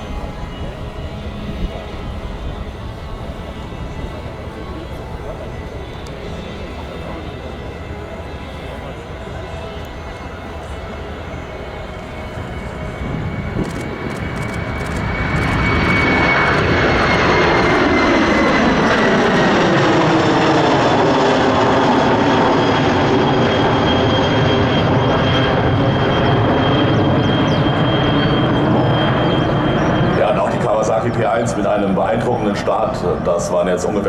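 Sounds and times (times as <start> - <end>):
jet engines at takeoff power: 0.0 - 34.0.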